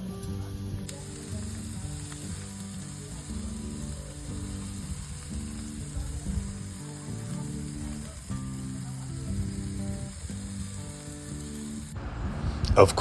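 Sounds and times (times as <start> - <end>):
food sizzling on a grill: 0.0 - 12.9
background music with low notes: 0.0 - 13.0.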